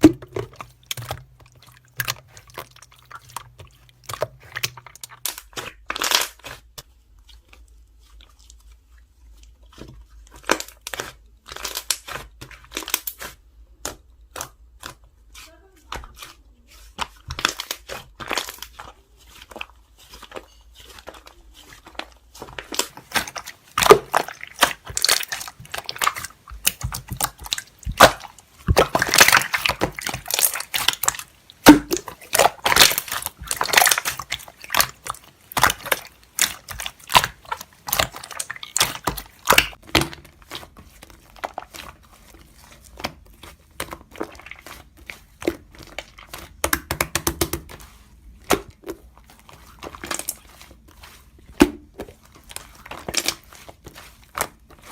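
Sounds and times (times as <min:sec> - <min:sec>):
slime squelching and popping: 0:00.0 - 0:54.9.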